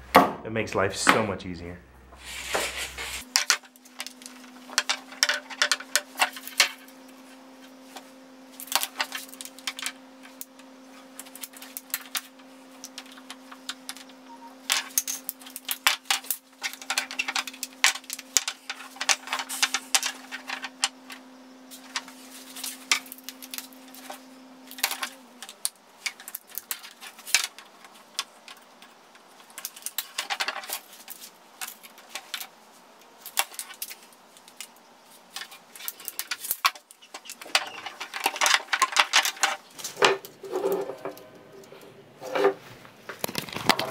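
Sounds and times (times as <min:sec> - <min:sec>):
steady low hum: 0:00.0 - 0:43.2.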